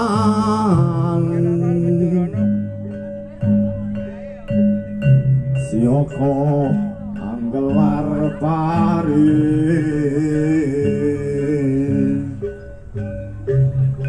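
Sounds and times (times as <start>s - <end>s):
gamelan music: 0.0s - 14.0s
person singing wavering line: 0.0s - 14.0s.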